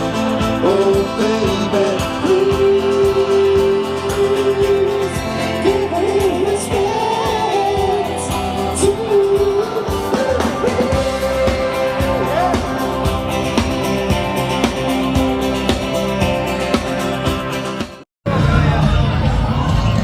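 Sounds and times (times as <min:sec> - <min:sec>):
band accompaniment: 0:00.0 - 0:20.0.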